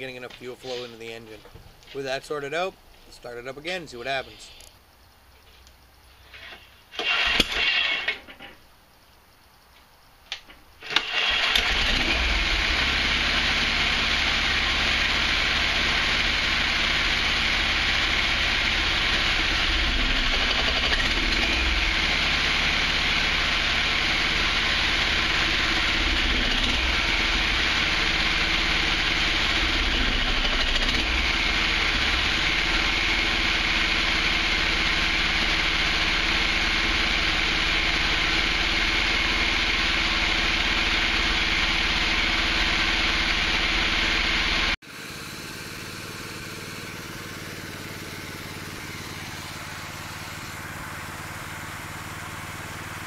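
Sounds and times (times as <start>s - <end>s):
engine running steadily: 4.2s - 8.4s, 10.8s - 53.0s.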